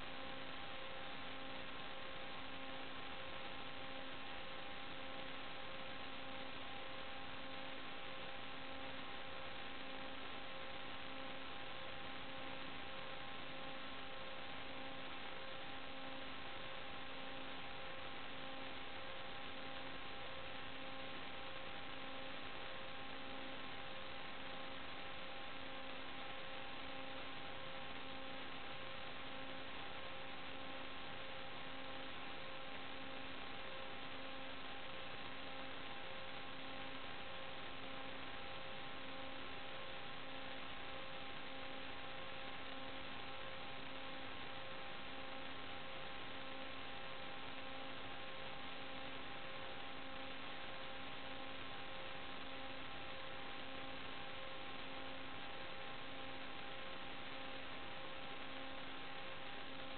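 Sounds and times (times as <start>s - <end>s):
electrical hiss and hum: 0.0s - 59.9s
faint steady tones: 0.0s - 59.9s.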